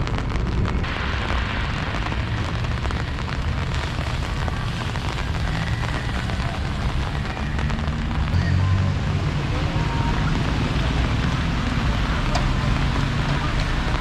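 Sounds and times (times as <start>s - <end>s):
low rumble: 0.0s - 14.0s
rain falling: 0.0s - 14.0s.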